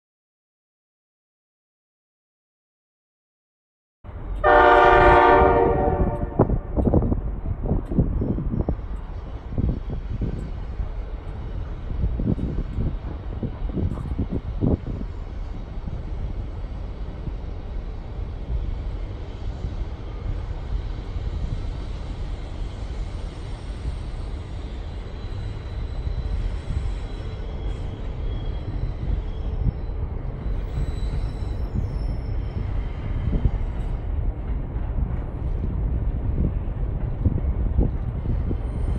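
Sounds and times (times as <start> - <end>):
diesel locomotive rumble: 4.1 - 38.9.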